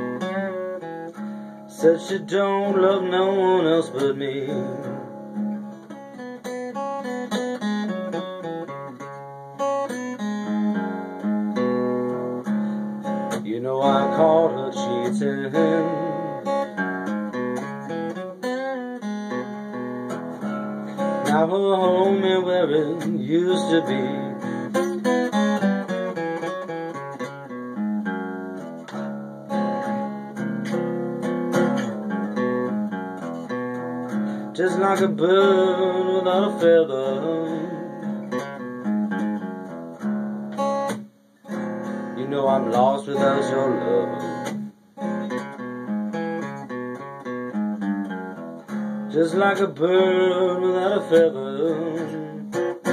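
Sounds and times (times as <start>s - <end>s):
acoustic guitar: 0.0s - 52.9s.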